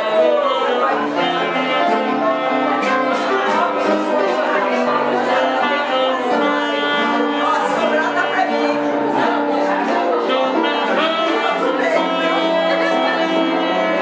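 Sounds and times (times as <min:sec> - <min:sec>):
musical backing: 0:00.0 - 0:14.0
people's voices: 0:00.0 - 0:14.0
saxophone melody: 0:00.0 - 0:14.0.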